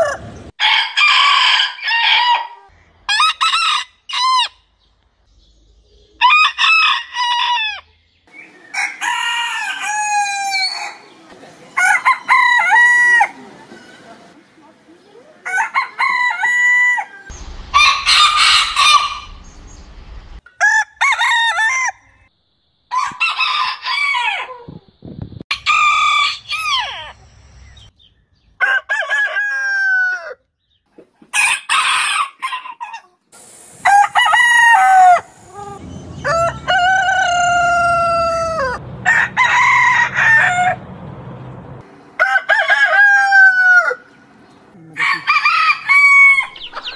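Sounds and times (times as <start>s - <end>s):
roosters crowing: 0.0s - 4.7s, 6.2s - 14.4s, 15.4s - 22.3s, 22.9s - 24.7s, 25.5s - 27.3s, 28.6s - 30.5s, 31.3s - 33.0s, 33.7s - 41.0s, 42.1s - 46.9s.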